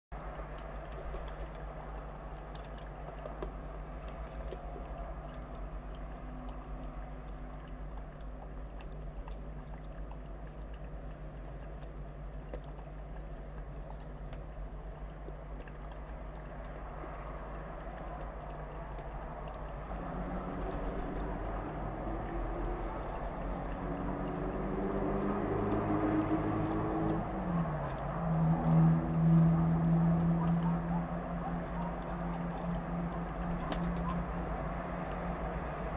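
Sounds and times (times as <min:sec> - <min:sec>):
distant city traffic rumble: 0:00.1 - 0:35.9
faint small clicks: 0:00.2 - 0:35.9.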